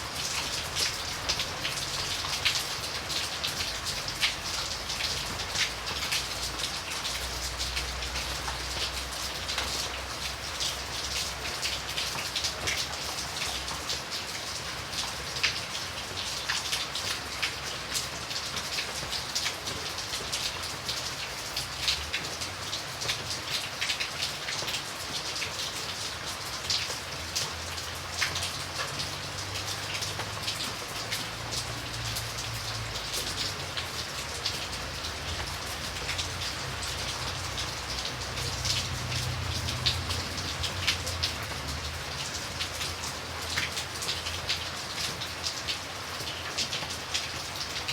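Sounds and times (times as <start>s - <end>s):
rain pattering on a surface: 0.0s - 47.9s.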